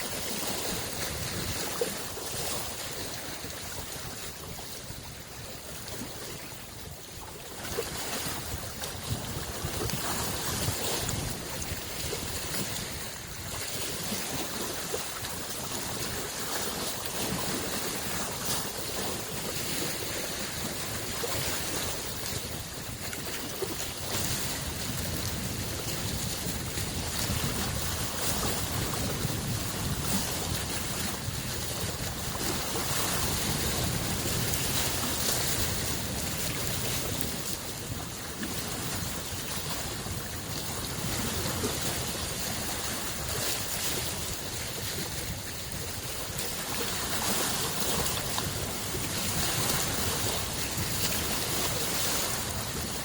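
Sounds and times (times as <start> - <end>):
waves lapping on shore: 0.0 - 53.0
wind on microphone: 0.0 - 53.0.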